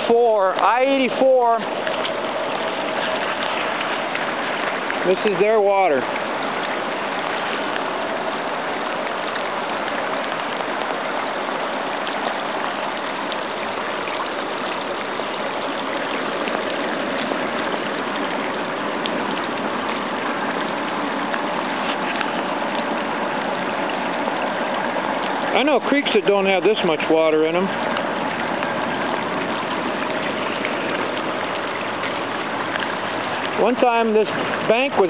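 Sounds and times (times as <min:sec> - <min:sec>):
creek rushing over gravel: 0:00.0 - 0:35.0
heavy rain falling: 0:00.0 - 0:35.0.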